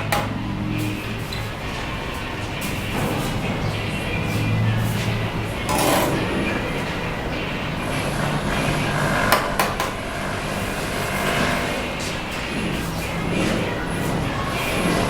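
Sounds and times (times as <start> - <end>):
construction site noise: 0.0 - 15.0.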